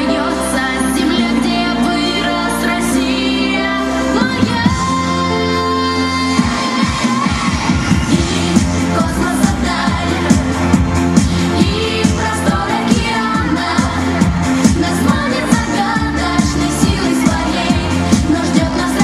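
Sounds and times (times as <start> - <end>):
pop dance music with singing: 0.0 - 19.0.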